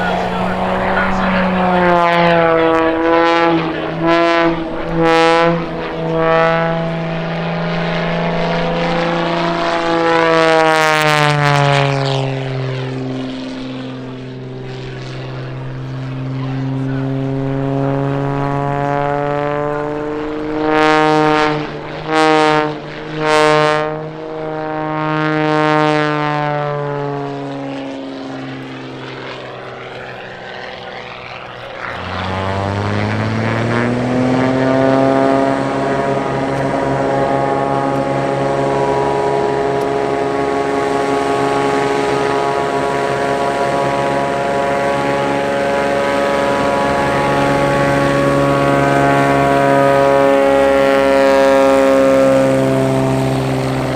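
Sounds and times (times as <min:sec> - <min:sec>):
propeller airplane passing by: 0:00.0 - 0:53.9
propeller engine drone: 0:00.0 - 0:53.9.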